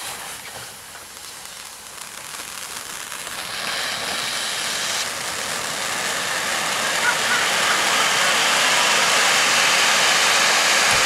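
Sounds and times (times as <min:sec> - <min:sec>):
firework fountains hissing and crackling: 0:00.0 - 0:11.0.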